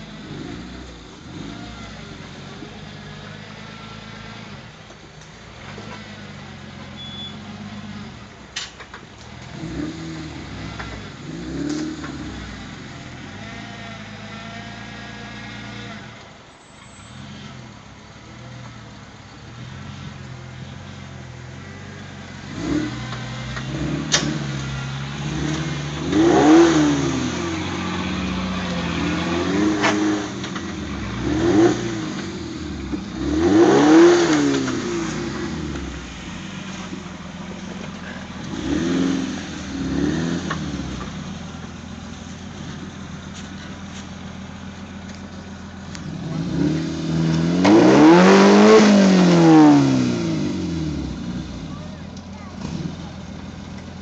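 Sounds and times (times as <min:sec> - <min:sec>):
engine revving under load: 0:00.0 - 0:04.8, 0:09.3 - 0:16.4, 0:19.4 - 0:44.3, 0:45.7 - 0:53.6.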